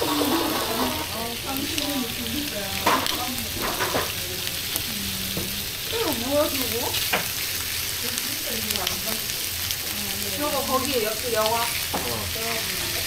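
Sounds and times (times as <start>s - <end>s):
squid sizzling on griddle: 0.0s - 13.0s.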